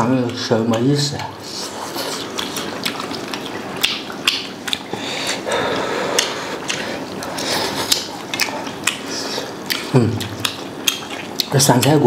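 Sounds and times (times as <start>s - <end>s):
person chewing food: 0.0s - 11.9s.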